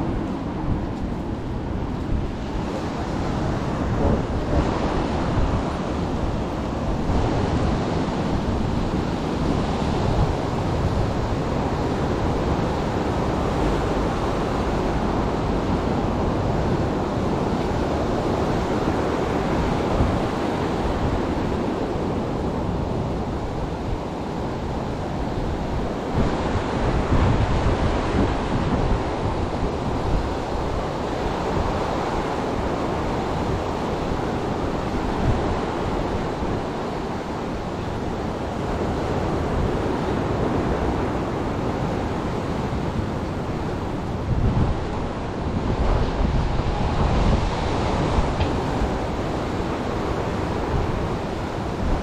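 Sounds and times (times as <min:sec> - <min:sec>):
sea surf: 0:00.0 - 0:52.0
wind buffeting microphone: 0:00.0 - 0:52.0.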